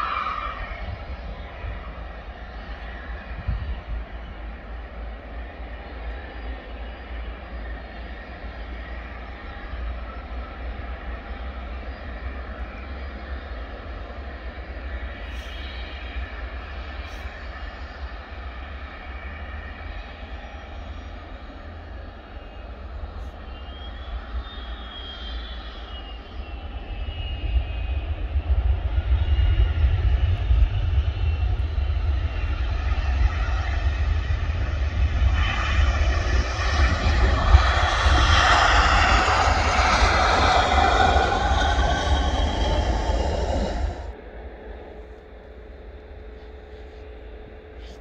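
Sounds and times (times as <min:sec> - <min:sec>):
high engine whine gliding in pitch: 0:00.0 - 0:48.0
jet engines roaring: 0:00.0 - 0:48.0.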